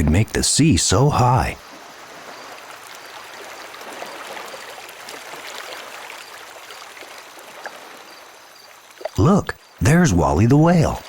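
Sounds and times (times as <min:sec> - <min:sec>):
water trickling and lapping: 0:00.9 - 0:11.0.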